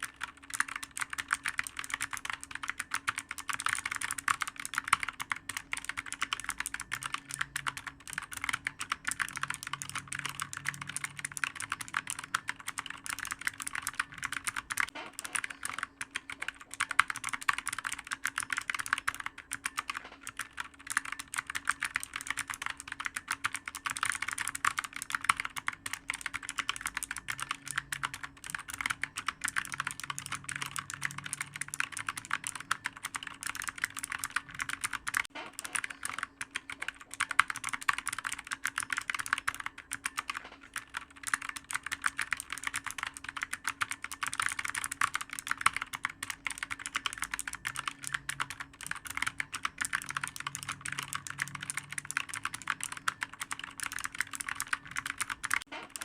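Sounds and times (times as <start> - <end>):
faint steady hum: 0.0 - 56.0
keyboard typing: 0.0 - 56.0.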